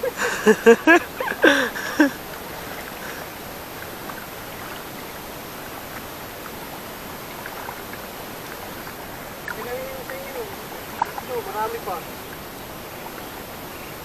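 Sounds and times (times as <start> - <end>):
faint water drips: 0.0 - 14.0
paddle splashing water: 0.0 - 14.0
steady rushing hiss: 0.0 - 14.0.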